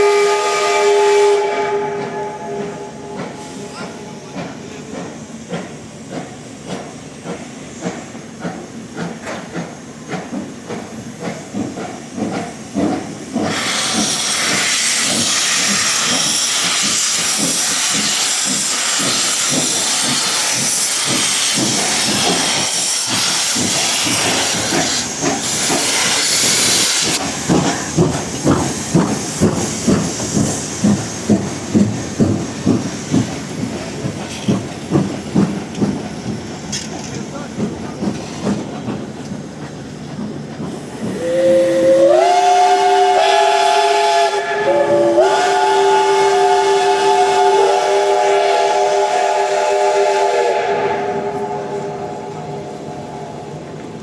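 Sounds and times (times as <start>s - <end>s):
loud hiss of steam: 0.0s - 54.0s
rhythmic train clatter: 0.0s - 54.0s
steam locomotive rhythmic beats: 0.0s - 54.0s.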